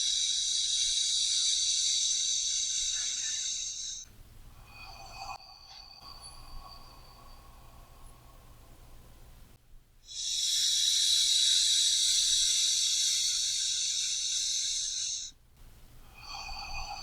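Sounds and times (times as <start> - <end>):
slow deep breathing: 0.0 - 9.5, 10.1 - 15.4, 16.0 - 17.0.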